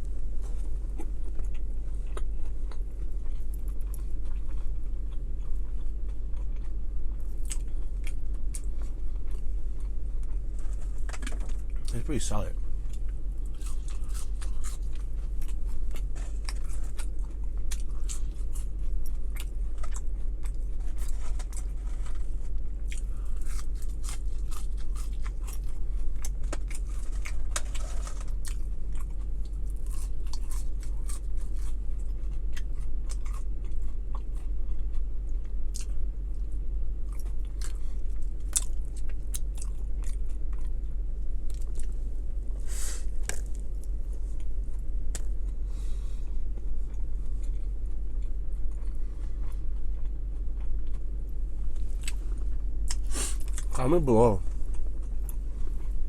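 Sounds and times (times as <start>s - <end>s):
chewing and biting sandwich: 0.0s - 56.0s
constant low hum: 0.0s - 56.0s.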